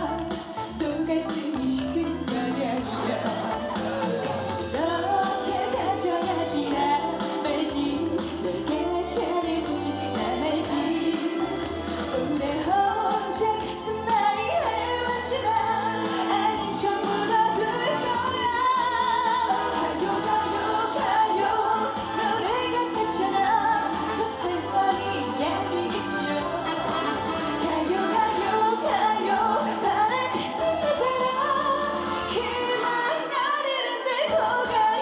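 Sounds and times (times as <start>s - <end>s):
backing band with steady beat: 0.0s - 32.7s
woman singing: 0.0s - 35.0s.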